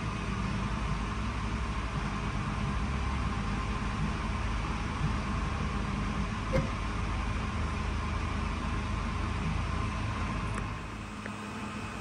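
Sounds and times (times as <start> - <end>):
machine fans humming: 0.0 - 12.0.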